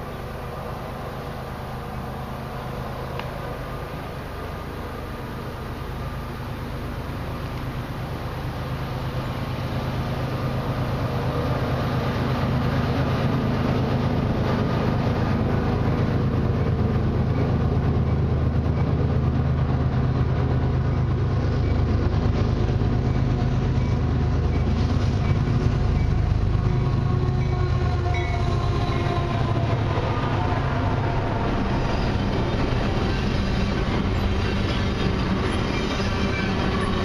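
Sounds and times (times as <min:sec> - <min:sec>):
diesel locomotive engines droning: 0:00.0 - 0:37.0.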